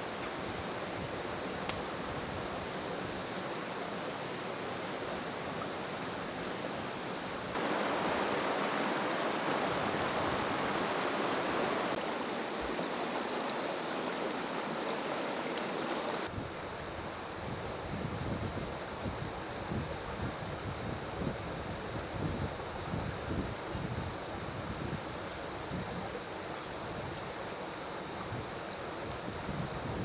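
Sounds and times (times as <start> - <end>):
stream running over rocks: 0.0 - 30.0.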